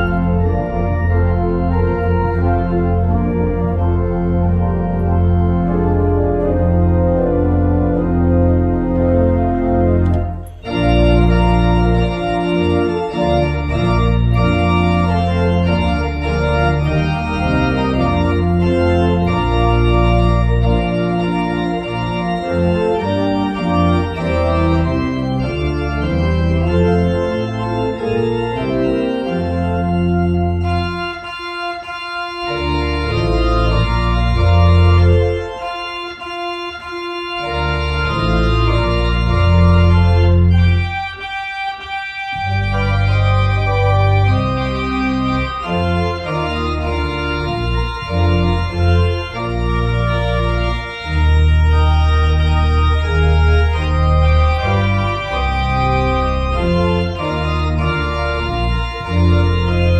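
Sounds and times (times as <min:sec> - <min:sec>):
church organ playing chords: 0:00.0 - 0:59.9.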